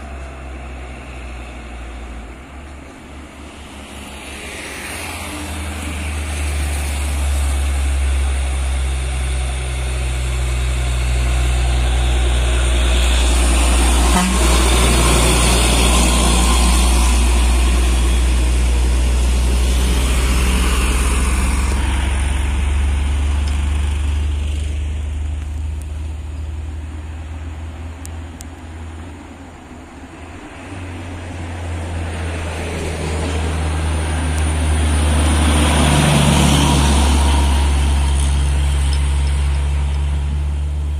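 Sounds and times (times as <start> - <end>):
truck diesel engines labouring: 0.0 - 40.9.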